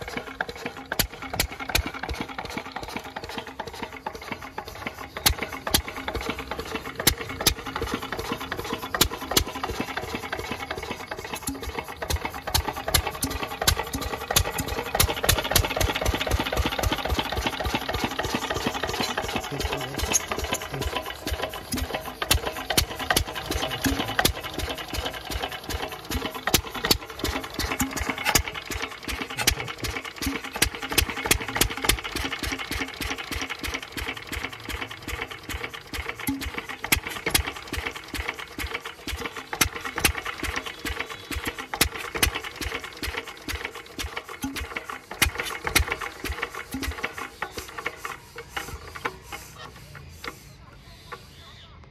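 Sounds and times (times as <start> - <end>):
diesel engine knocking: 0.0 - 51.4.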